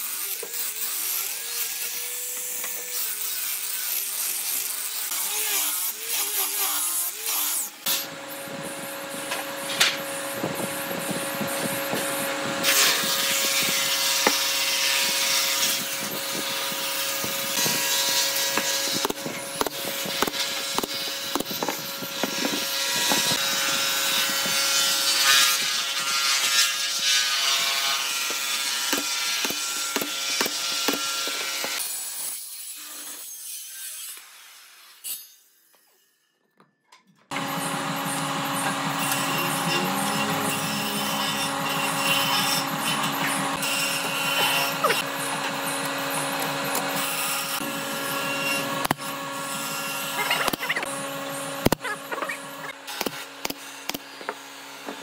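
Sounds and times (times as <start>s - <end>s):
power tool cutting wood: 0.0s - 36.1s, 37.3s - 55.0s.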